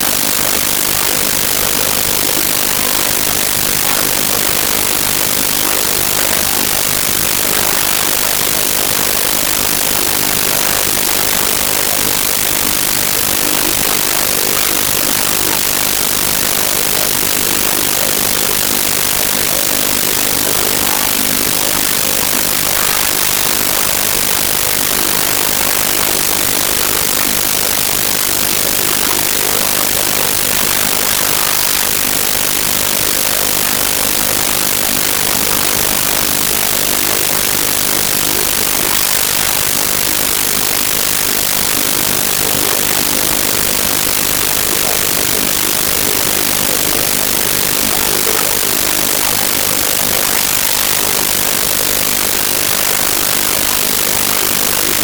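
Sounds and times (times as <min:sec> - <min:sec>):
static hiss: 0:00.0 - 0:55.0.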